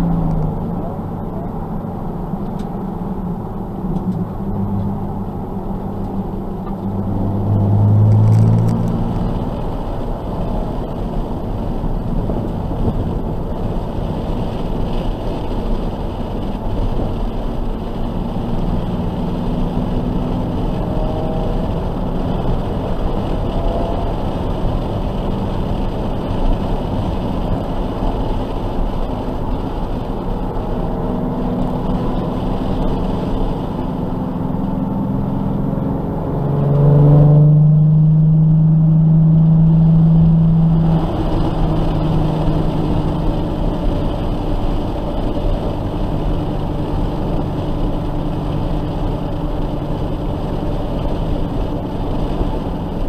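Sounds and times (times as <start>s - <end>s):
car engine at speed: 0.0s - 53.0s.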